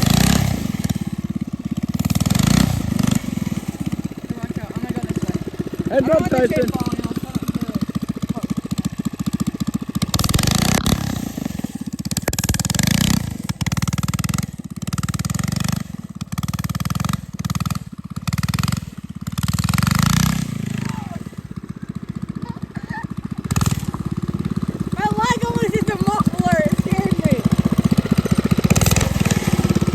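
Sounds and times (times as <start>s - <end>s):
mini bike engine revving: 0.0s - 29.9s.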